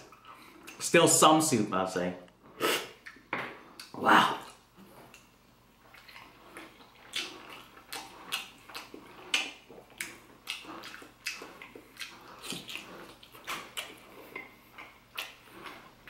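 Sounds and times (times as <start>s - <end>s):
wet eating and slurping: 2.6s - 16.0s.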